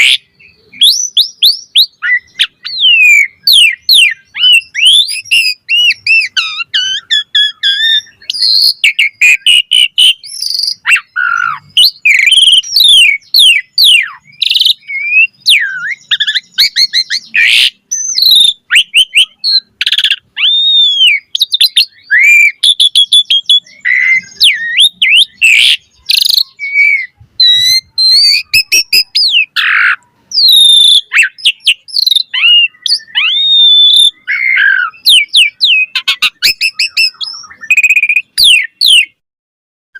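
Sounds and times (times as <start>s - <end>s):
starling singing: 0.0s - 39.2s.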